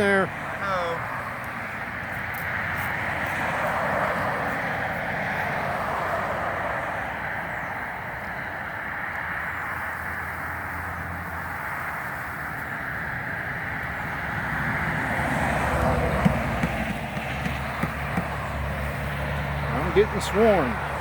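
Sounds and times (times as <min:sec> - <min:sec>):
honeybees buzzing: 0:01.2 - 0:21.0.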